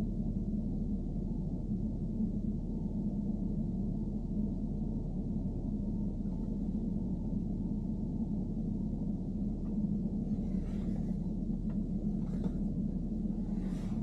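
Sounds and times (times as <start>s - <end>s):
car interior engine drone: 0.0s - 14.0s
constant low hum: 0.0s - 14.0s.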